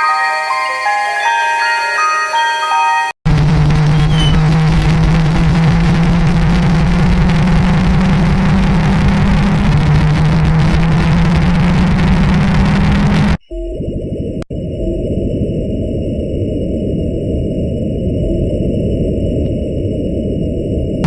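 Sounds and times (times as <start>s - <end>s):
heavy distorted rumbling: 3.3s - 21.0s
low-pitched siren drone: 3.3s - 21.0s.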